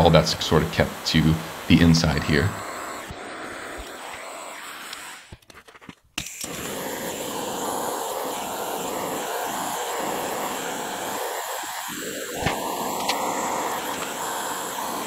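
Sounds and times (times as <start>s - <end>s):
gas torch flame hissing: 0.0s - 5.4s, 6.2s - 15.0s.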